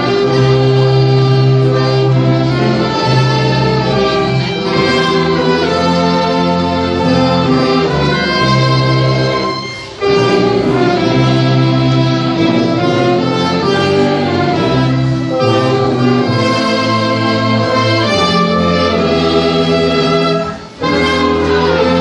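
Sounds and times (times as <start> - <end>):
orchestra playing a hymn: 0.0 - 22.0.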